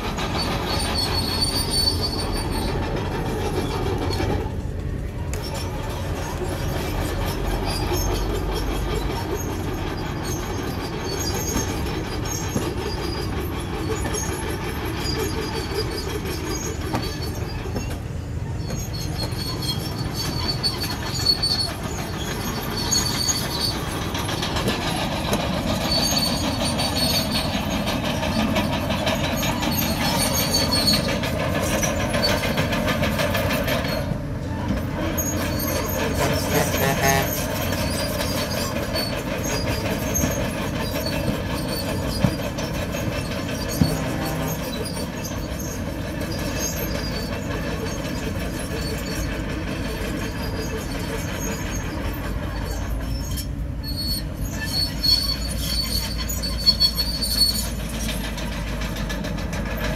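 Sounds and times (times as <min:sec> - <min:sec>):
bulldozer engine under load: 0:00.0 - 0:59.9
steel tracks clanking and squealing: 0:00.0 - 0:59.9.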